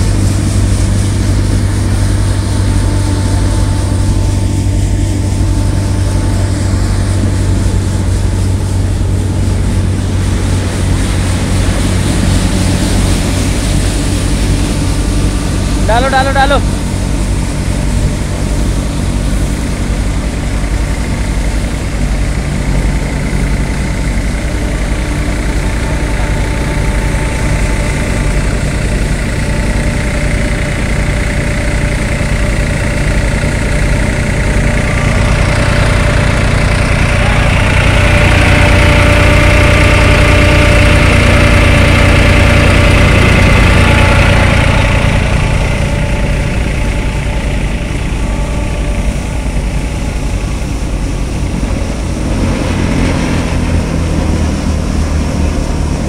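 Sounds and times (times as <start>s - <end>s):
tractor engine and thresher drone: 0.0s - 56.0s.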